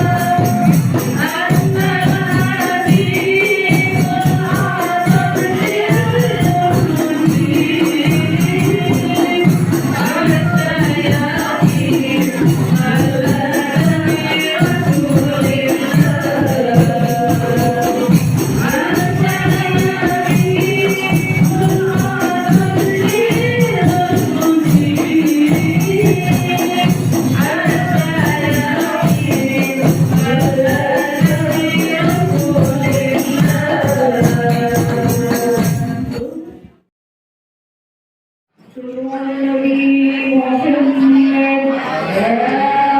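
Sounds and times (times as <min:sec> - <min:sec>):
frame drums with jingles: 0:00.0 - 0:36.4
voices singing together: 0:00.0 - 0:36.6, 0:38.7 - 0:42.9.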